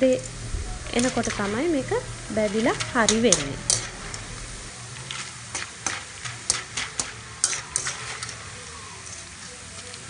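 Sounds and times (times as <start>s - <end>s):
food deep-frying in oil: 0.0s - 10.0s.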